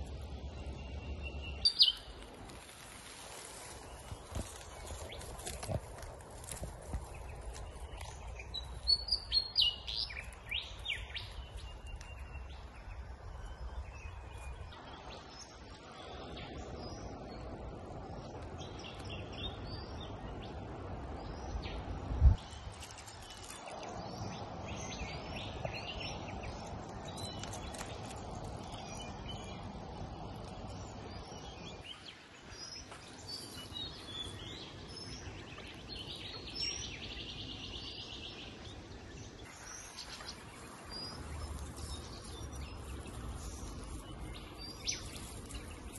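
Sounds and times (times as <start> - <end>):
outdoor background noise: 0.0 - 45.9
small birds chirping: 0.0 - 45.9.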